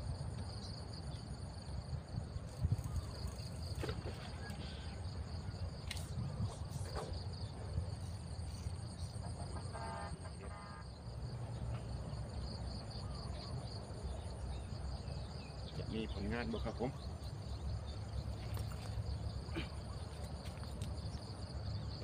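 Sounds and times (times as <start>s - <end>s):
insects trilling: 0.1s - 22.0s.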